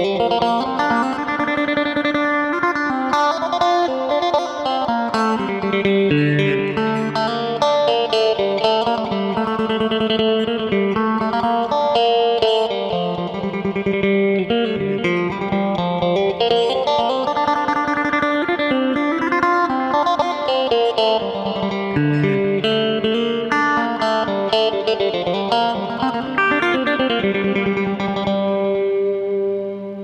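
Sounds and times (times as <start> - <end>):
electric guitar melodic line: 0.0 - 30.0.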